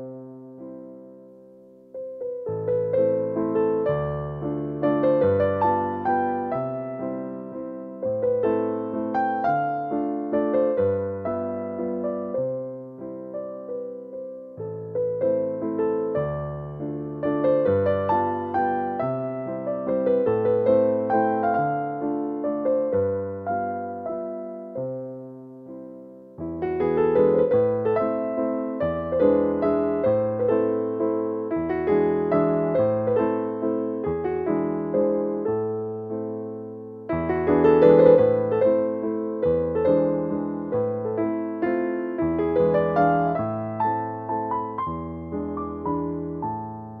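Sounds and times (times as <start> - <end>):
gentle piano piece: 0.0 - 47.0.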